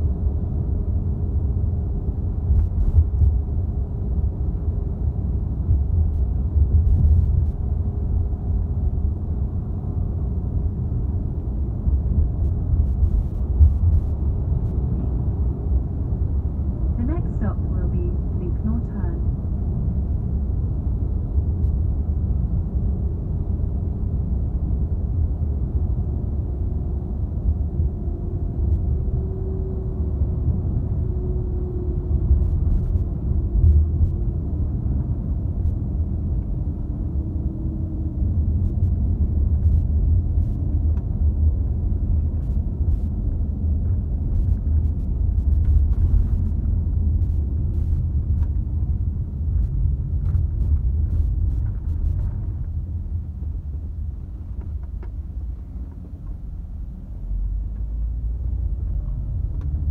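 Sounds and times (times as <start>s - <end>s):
coach engine and tyres rumbling: 0.0s - 59.9s
faint drone: 0.0s - 59.9s.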